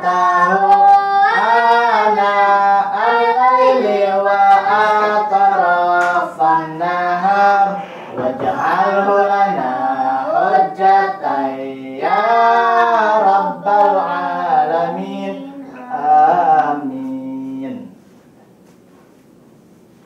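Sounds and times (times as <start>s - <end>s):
man chanting recitation: 0.0s - 18.0s.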